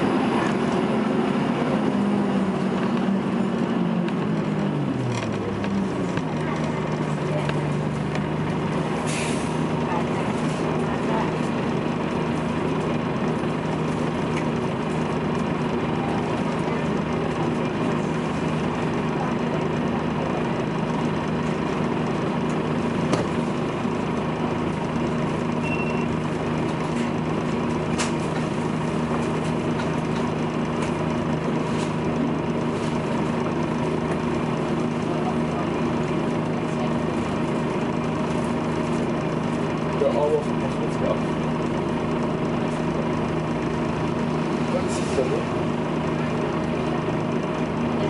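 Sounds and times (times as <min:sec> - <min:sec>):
bus diesel engine idling: 0:00.0 - 0:48.0.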